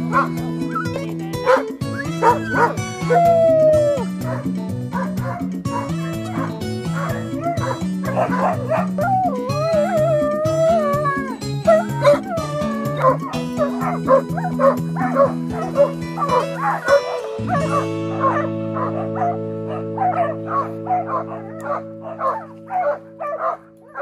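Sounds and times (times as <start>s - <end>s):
background music with held chords: 0.0s - 24.0s
dogs yipping and barking: 0.0s - 24.0s
dogs whining: 0.1s - 24.0s.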